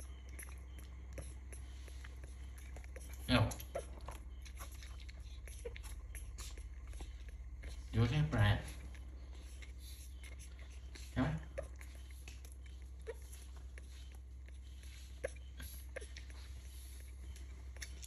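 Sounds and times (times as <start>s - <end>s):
baby monkey gulping milk: 0.0s - 18.0s.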